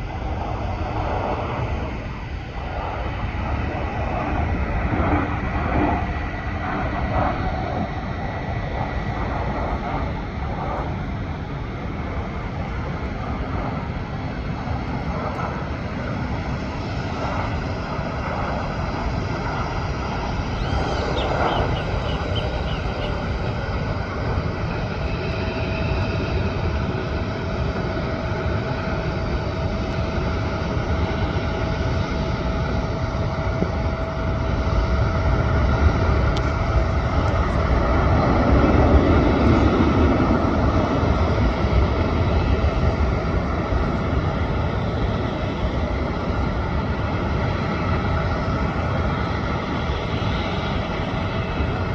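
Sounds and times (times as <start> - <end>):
jet airliner engines rushing: 0.0 - 51.9
jet engine whine: 0.0 - 51.9.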